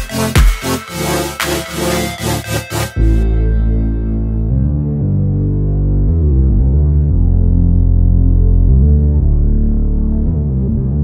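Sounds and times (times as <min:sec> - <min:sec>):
deep bass: 0:00.0 - 0:11.0
sustained chords music: 0:00.0 - 0:11.0.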